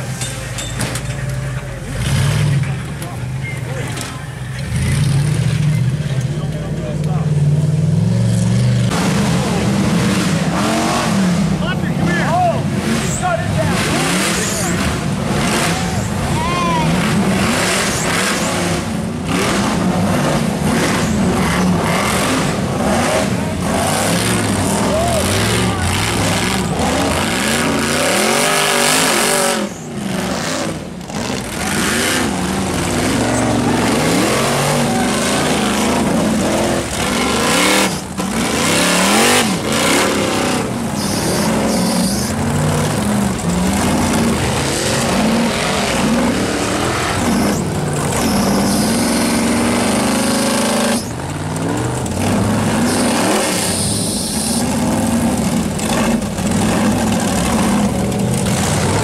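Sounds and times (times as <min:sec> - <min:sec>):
racing buggy engines revving: 0:00.0 - 0:59.0.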